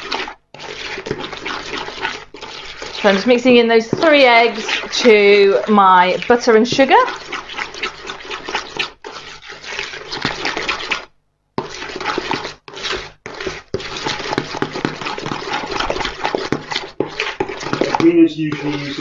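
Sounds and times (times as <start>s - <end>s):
spoon beating batter in bowl: 0.0s - 19.0s.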